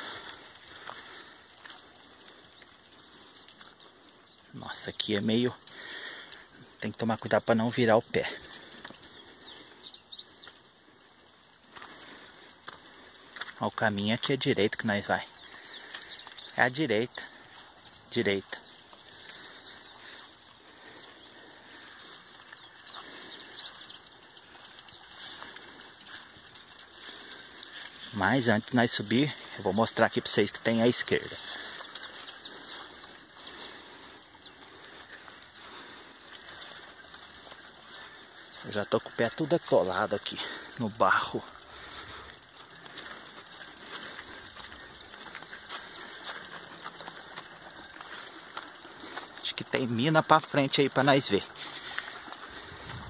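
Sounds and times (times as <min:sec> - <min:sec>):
bicycle hub ticking: 0:00.0 - 0:53.0
small birds chirping: 0:00.0 - 0:53.0.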